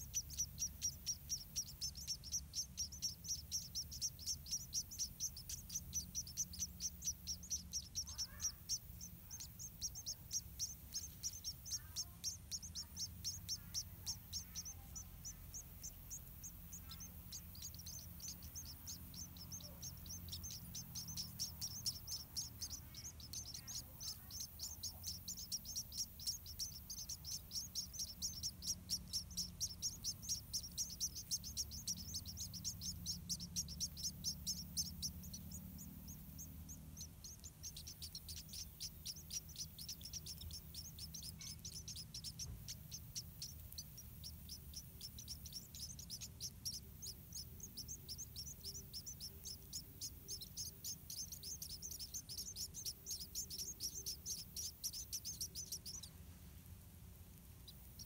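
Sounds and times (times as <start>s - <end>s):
nestlings chirping: 0.0s - 58.0s.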